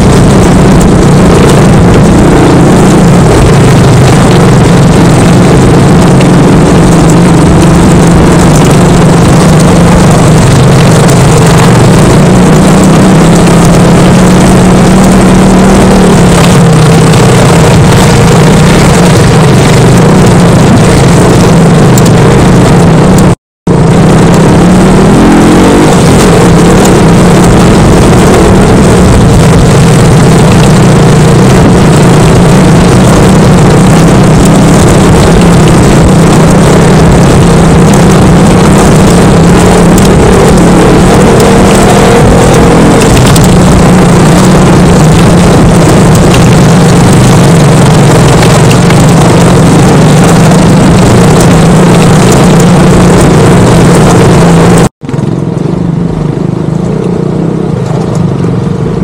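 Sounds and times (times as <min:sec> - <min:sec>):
loud rushing noise: 0:00.0 - 0:59.0
motorcycle engine running: 0:00.0 - 0:59.0.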